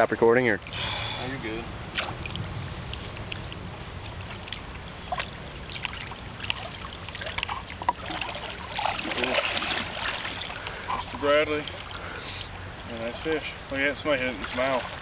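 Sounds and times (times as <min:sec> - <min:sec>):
creek water sloshing and trickling: 0:00.0 - 0:15.0
sharp water splashes: 0:01.8 - 0:15.0.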